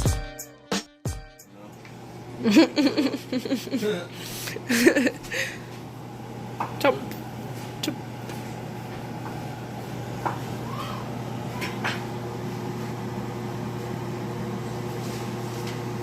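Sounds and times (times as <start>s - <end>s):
kitchen appliance humming: 1.5s - 16.0s.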